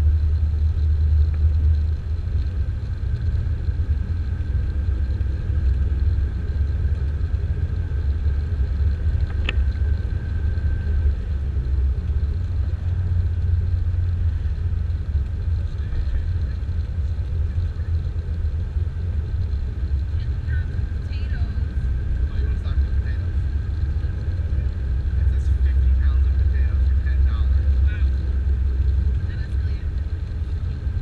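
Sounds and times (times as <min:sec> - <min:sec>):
vehicle rumble from inside cabin: 0:00.0 - 0:31.0.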